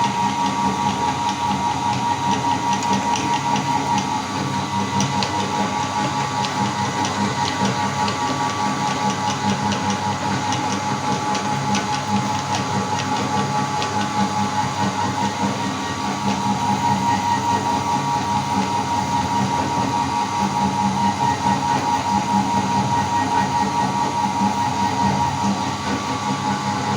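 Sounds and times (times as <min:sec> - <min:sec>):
meat grinder motor whining: 0:00.0 - 0:26.9.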